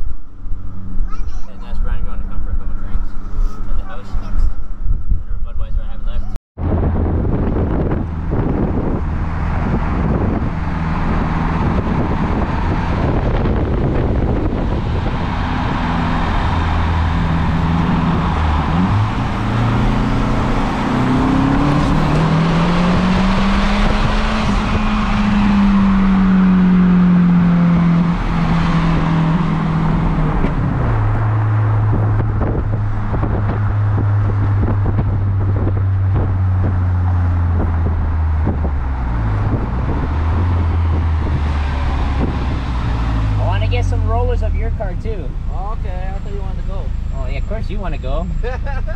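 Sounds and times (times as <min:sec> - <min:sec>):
street traffic: 0:00.0 - 0:48.9
car engine accelerating: 0:06.6 - 0:48.9.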